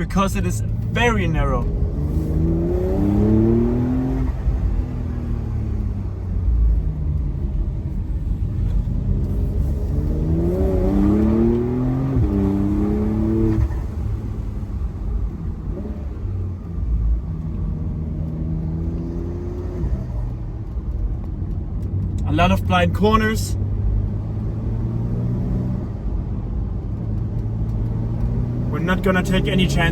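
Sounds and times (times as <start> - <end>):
car engine pulling: 0.0 - 29.9.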